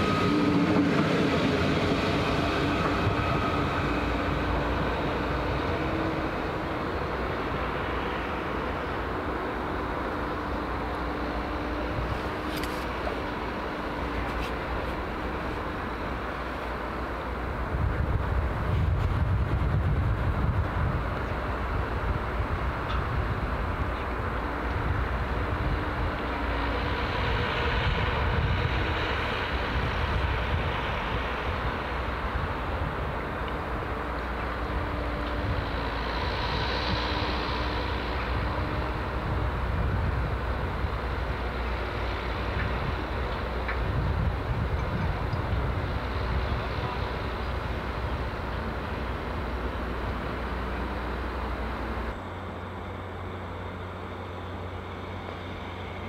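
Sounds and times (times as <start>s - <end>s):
distant train rumble: 0.0s - 56.0s.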